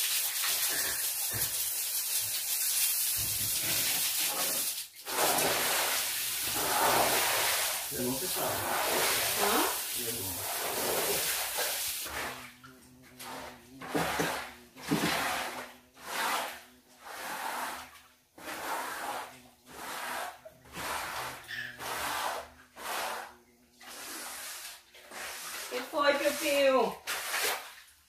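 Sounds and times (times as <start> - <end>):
scrubbing wet tiled floor: 0.0 - 28.0.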